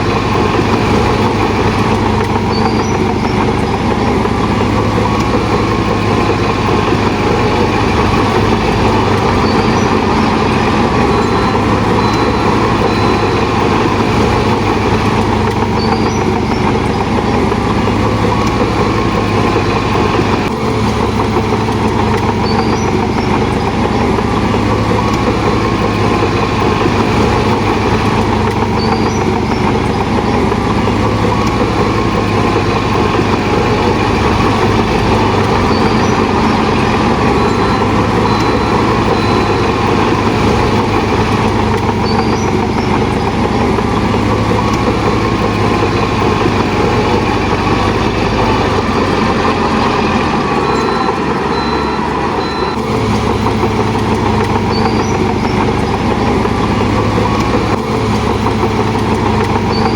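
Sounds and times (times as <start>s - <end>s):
bulldozer diesel engine running: 0.0s - 59.9s
steel tracks clattering: 0.0s - 59.9s.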